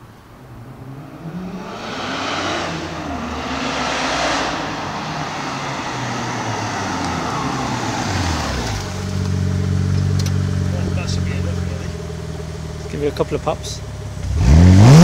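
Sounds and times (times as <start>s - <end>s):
car exhaust engine note: 0.0s - 15.0s.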